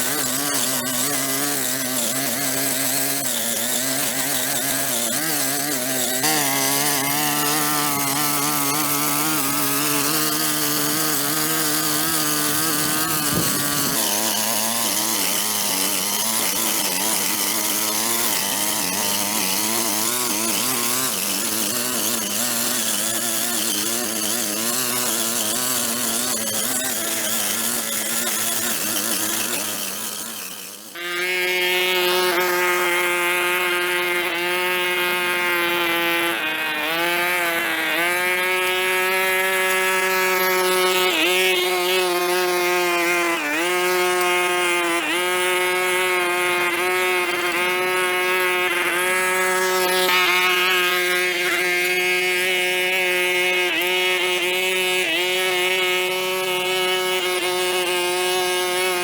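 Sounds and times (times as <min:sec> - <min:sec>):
power tool engine running: 0:00.0 - 0:59.0.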